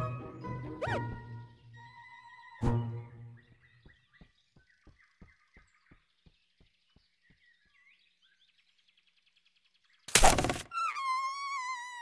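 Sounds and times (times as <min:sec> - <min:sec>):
bird chirps: 0:00.4 - 0:12.0.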